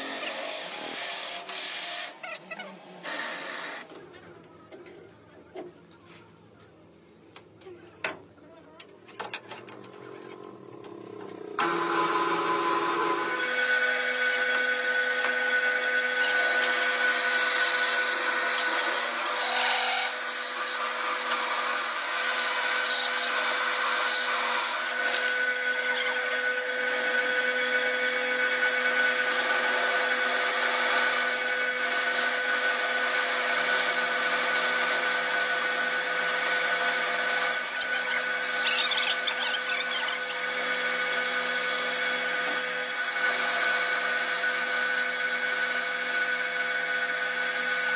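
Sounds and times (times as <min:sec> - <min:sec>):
metalworking machine whining: 0:00.0 - 0:05.7, 0:08.8 - 0:47.9.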